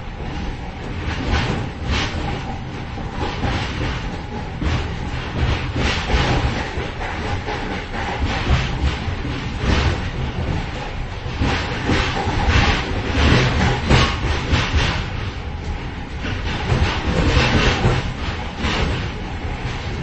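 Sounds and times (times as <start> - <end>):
train clatter: 0.0 - 20.0
train rumble: 0.0 - 20.0.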